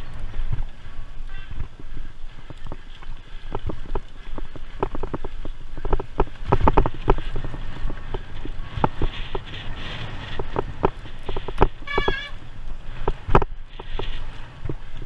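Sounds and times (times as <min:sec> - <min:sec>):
wind rumble on microphone: 0:00.0 - 0:15.0
bike jolting over stony track: 0:01.3 - 0:14.9.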